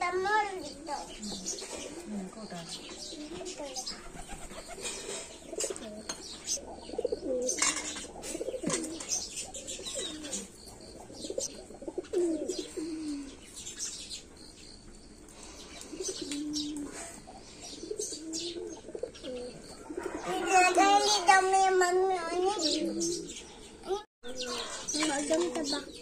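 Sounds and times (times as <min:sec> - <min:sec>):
pigeons cooing: 0:00.0 - 0:14.4, 0:15.1 - 0:26.0.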